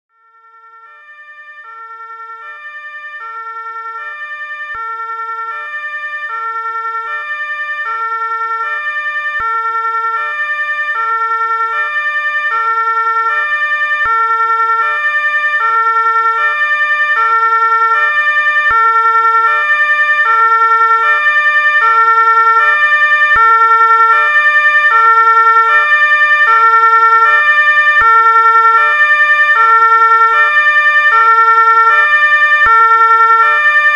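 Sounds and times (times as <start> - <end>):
two-tone ambulance siren: 0.1 - 33.9.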